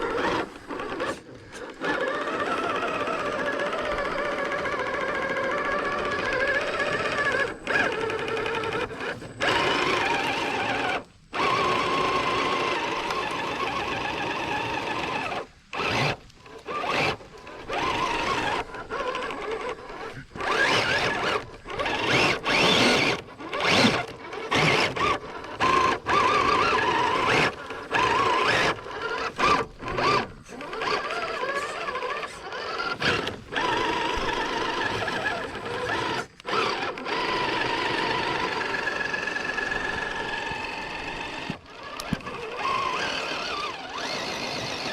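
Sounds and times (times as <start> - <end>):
rc car motor whining: 0.0 - 44.9.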